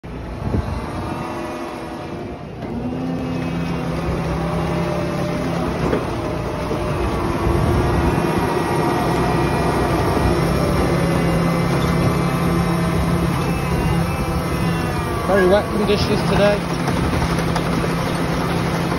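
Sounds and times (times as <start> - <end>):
harvester engine hum: 0.0 - 18.9
working machinery noise: 0.0 - 18.9.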